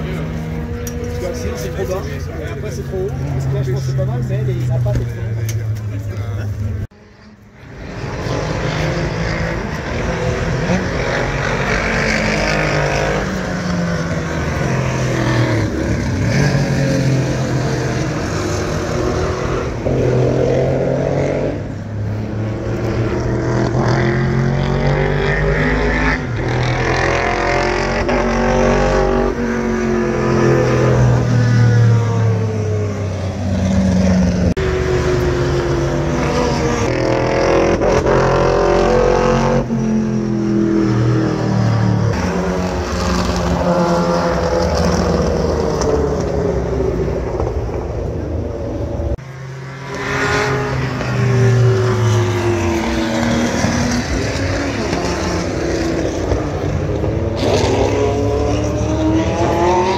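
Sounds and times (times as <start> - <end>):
racing car engines passing by: 0.0 - 59.9.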